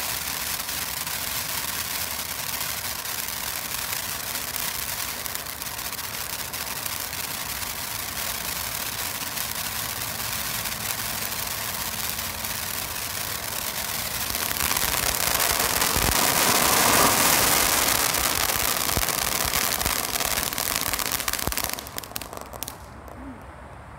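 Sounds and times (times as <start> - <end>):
firework fountain hissing: 0.0 - 23.2
firework crackles: 0.0 - 23.3.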